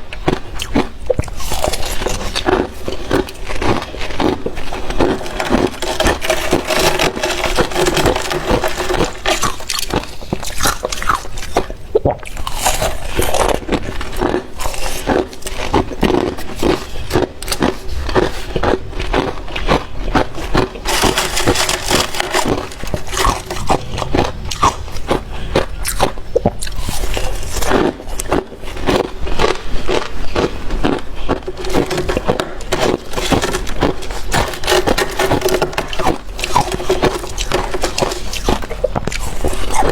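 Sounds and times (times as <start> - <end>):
crunching and chewing of frost: 0.0 - 39.9.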